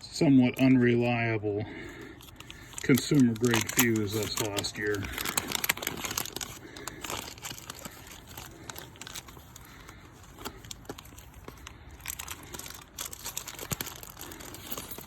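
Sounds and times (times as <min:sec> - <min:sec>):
packaging crinkling and rustling: 0:01.8 - 0:15.0.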